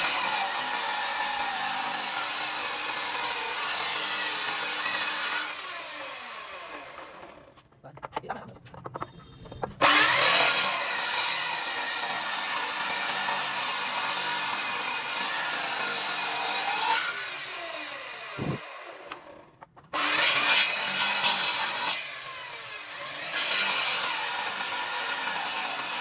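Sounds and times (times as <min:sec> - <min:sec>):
power tool grinding: 0:00.0 - 0:07.8, 0:08.6 - 0:26.0.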